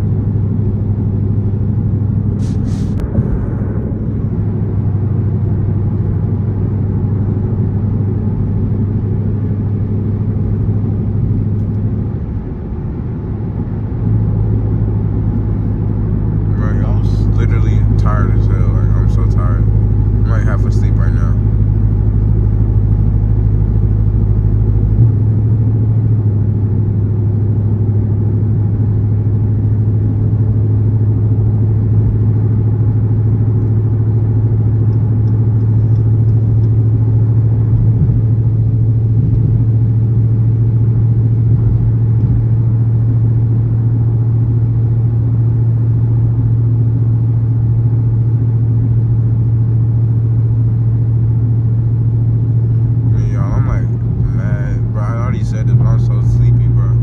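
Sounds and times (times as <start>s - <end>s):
car exhaust droning at cruising speed: 0.0s - 57.0s.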